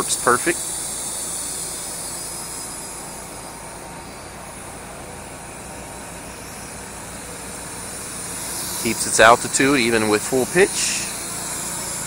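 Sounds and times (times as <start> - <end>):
toy drone propellers whirring: 0.0 - 12.0.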